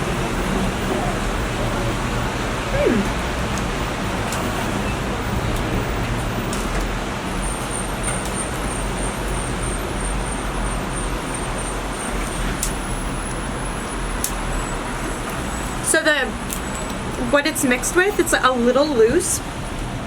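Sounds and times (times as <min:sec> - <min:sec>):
road traffic rumble and hiss: 0:00.0 - 0:20.0.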